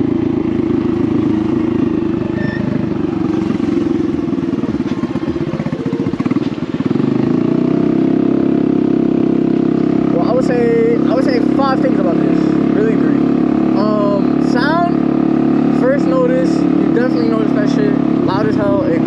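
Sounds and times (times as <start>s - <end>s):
motorcycle engine growling: 0.0s - 19.0s.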